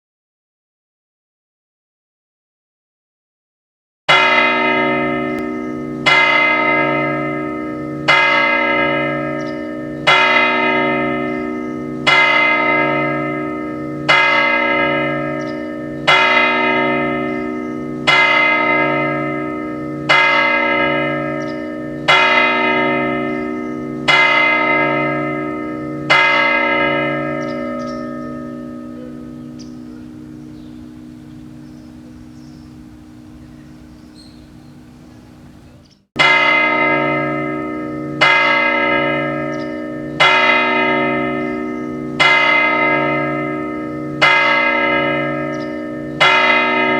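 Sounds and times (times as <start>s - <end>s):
tower clock bell striking: 4.1s - 35.3s, 36.2s - 46.9s.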